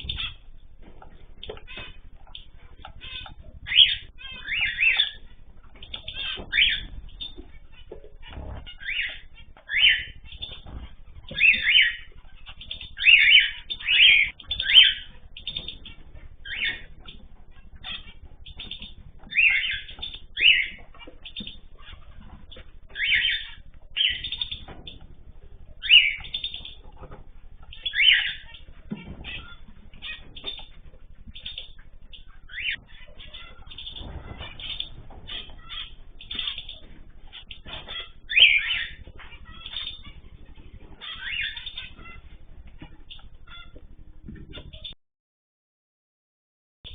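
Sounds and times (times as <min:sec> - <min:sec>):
cage birds chirping: 0:00.0 - 0:45.0.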